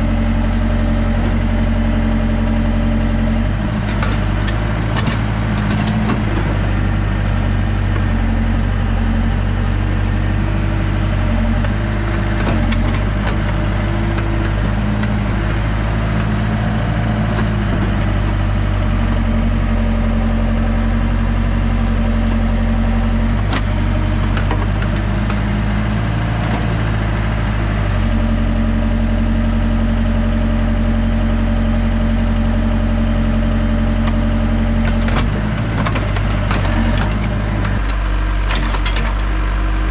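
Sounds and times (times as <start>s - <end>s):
heavy equipment engine running: 0.0s - 39.9s.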